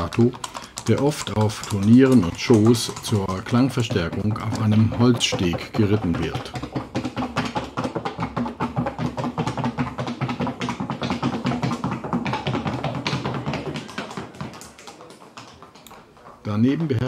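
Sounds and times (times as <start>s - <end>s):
rapid horse hoof taps: 0.0s - 17.0s.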